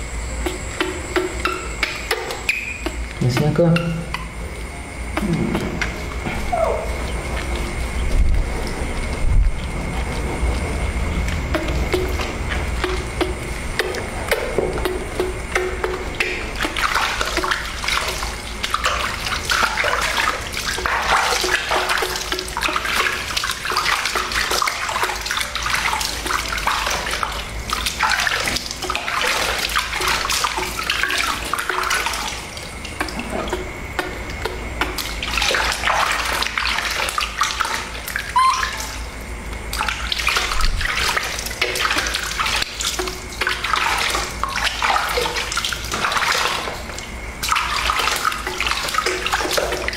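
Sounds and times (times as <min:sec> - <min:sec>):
water splashing and dripping: 0:00.0 - 0:49.9.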